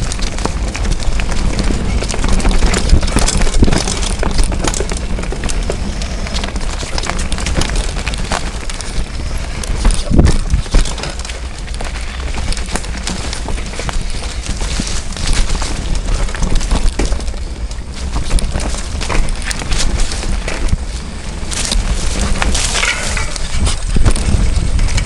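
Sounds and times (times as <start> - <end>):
mountain bike rattling: 0.0 - 25.0
tyre on dirt: 0.0 - 25.0.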